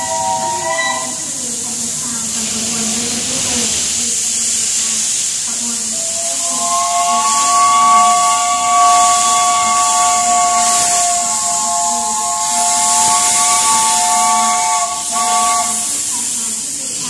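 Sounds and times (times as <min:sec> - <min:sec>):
steam locomotive whistle: 0:00.0 - 0:01.9, 0:05.1 - 0:17.0
steam hissing: 0:00.0 - 0:17.0.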